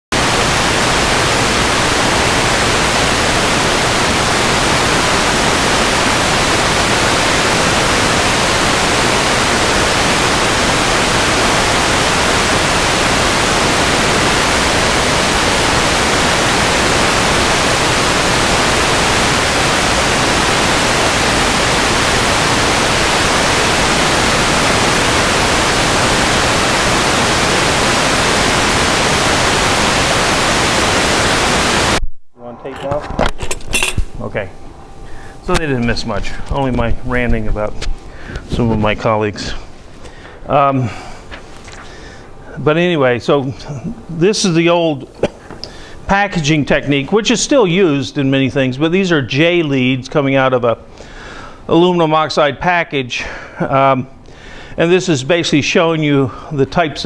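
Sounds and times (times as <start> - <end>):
steady static hiss: 0.0 - 57.0.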